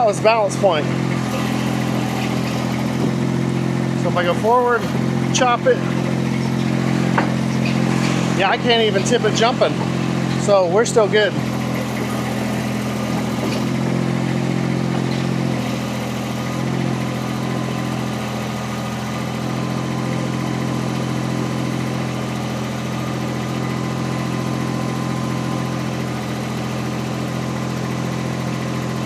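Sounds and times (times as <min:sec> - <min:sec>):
skid steer engine running: 0:00.0 - 0:29.0.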